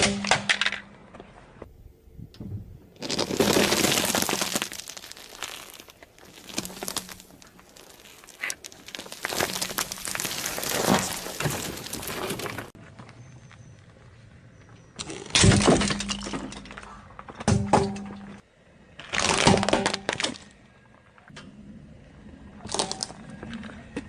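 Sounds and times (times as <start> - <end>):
car tyre crushing crunchy objects: 0.0 - 1.7, 2.8 - 24.0.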